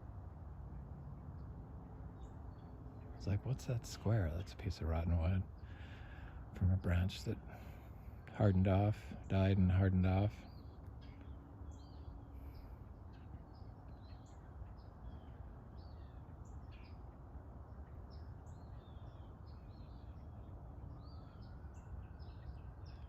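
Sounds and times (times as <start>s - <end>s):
small birds chirping: 0.7s - 23.0s.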